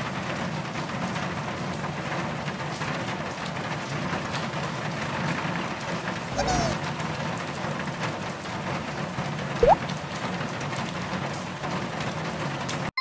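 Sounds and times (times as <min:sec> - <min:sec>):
rain: 0:00.0 - 0:12.9.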